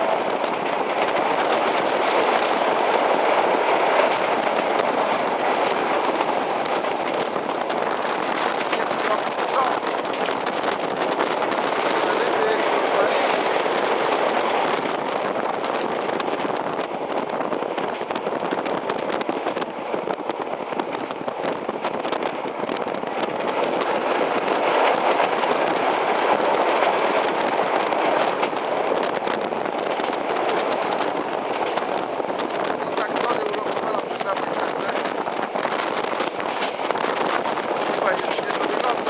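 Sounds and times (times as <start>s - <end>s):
rush of moving train: 0.0s - 39.0s
train wheels on rails: 0.0s - 39.0s.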